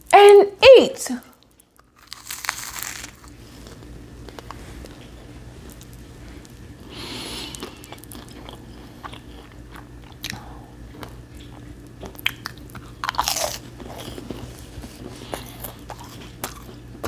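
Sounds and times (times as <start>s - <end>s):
crunchy snack chewing: 1.4s - 6.7s, 7.4s - 17.0s.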